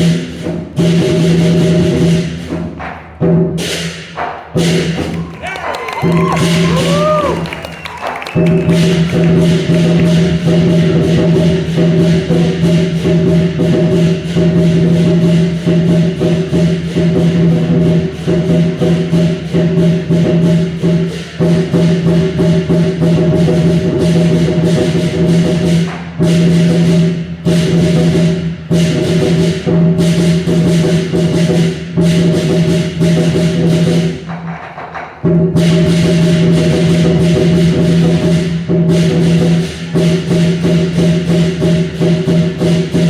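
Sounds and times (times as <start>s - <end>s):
rapid percussion strikes: 0.0s - 43.0s.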